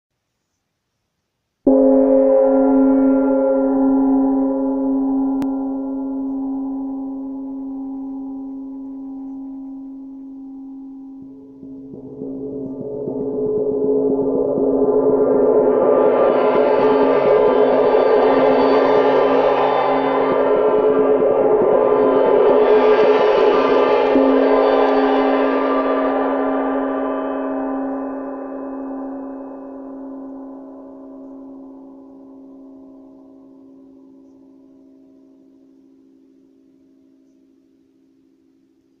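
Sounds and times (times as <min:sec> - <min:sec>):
gong ringing: 0:01.7 - 0:37.1.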